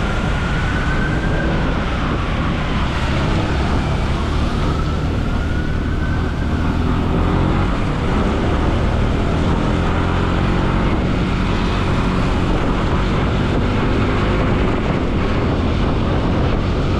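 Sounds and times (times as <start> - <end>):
tyre noise on road: 0.0 - 16.9
wind rushing over microphone: 0.0 - 16.9
motorcycle engine running: 2.3 - 16.9.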